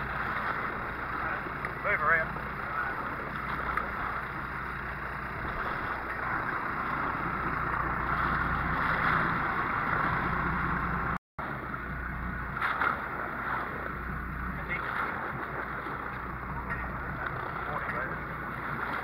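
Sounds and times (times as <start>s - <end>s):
low hum: 0.0s - 19.0s
water noise: 0.0s - 19.0s
wind: 0.0s - 19.0s.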